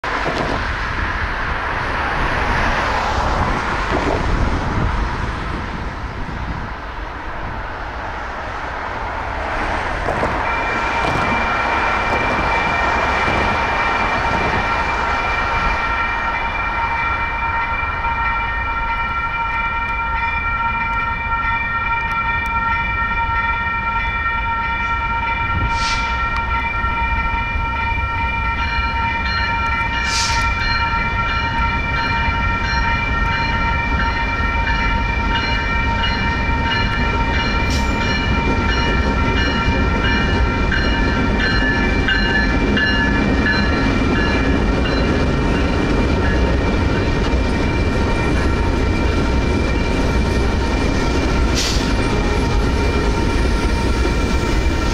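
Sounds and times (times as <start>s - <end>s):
road traffic: 0.0s - 54.9s
railroad crossing warning bells: 9.3s - 54.9s.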